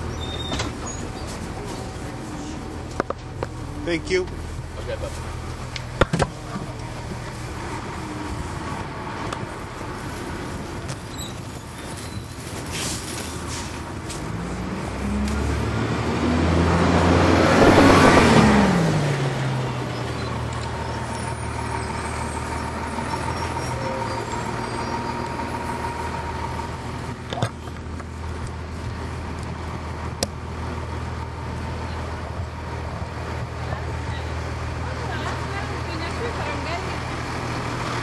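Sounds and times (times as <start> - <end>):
bus diesel engine drone: 0.0 - 38.0.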